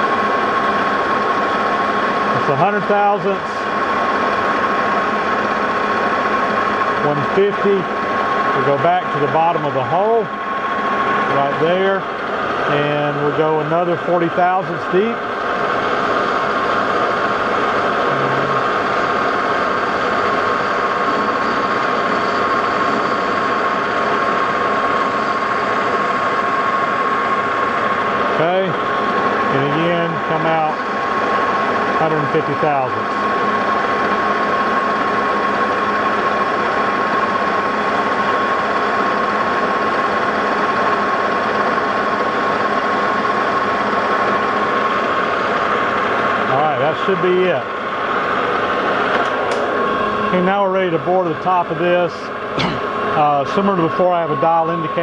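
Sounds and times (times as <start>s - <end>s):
metal lathe running: 0.0s - 55.0s
steady cutting whine: 0.0s - 55.0s.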